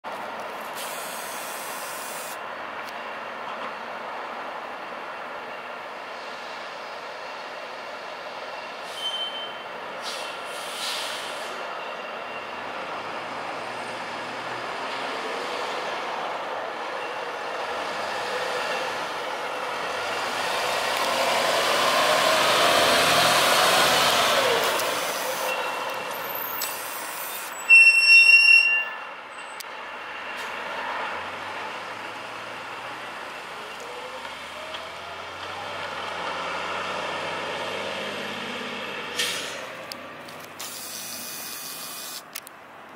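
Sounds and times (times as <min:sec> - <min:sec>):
fire engine diesel engine: 0:00.1 - 0:28.1, 0:28.7 - 0:42.9.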